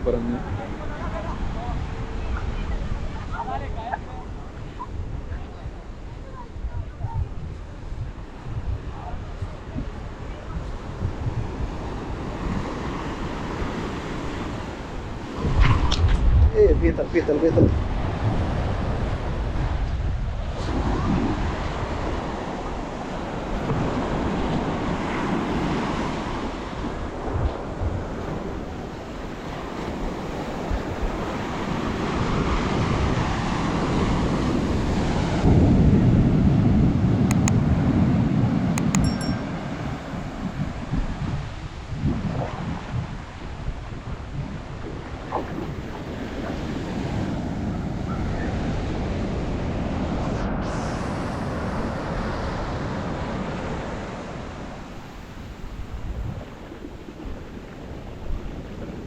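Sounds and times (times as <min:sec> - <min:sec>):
sea surf washing onto beach: 0:00.0 - 0:59.0
wind buffeting microphone: 0:00.0 - 0:59.0.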